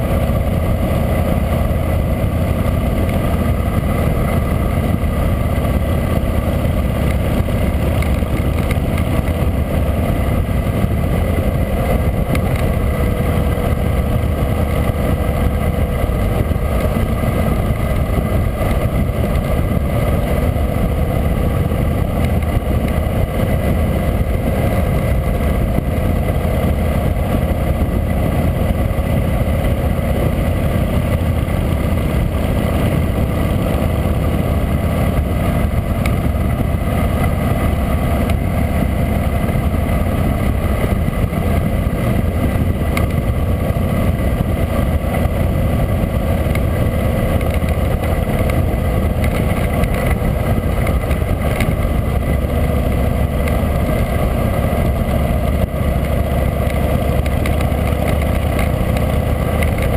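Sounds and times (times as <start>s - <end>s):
motorcycle engine running: 0.0s - 59.9s
wind rush on microphone: 0.0s - 59.9s.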